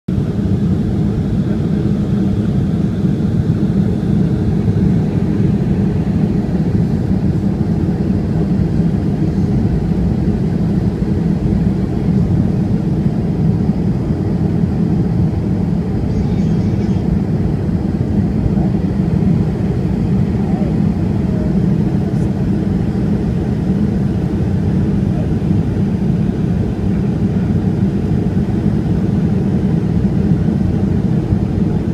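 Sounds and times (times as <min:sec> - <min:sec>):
airplane cabin rumble: 0:00.1 - 0:31.9.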